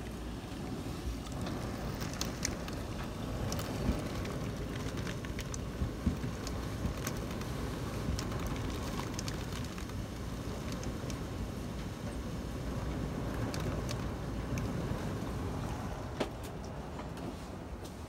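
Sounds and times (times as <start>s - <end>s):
raindrops ticking on window glass: 0.0s - 15.9s
heavy rain driven by wind: 0.0s - 18.0s.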